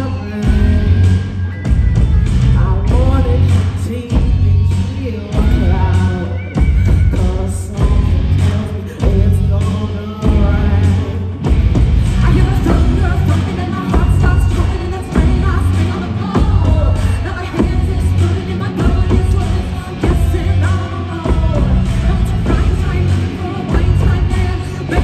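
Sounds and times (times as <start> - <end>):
loud live rock music: 0.0 - 25.0
person singing: 0.0 - 25.0.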